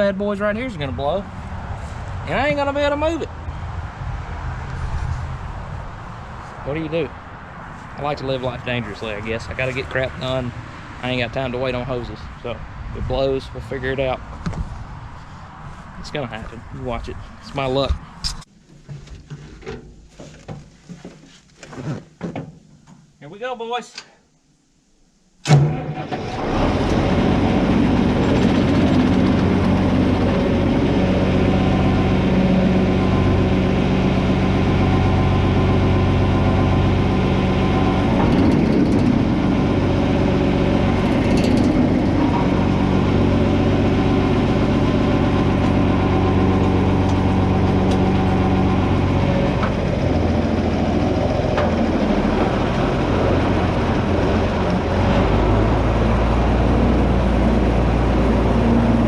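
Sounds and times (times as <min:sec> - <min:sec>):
diesel tractor engine running: 0:00.0 - 0:17.9, 0:25.5 - 0:59.0.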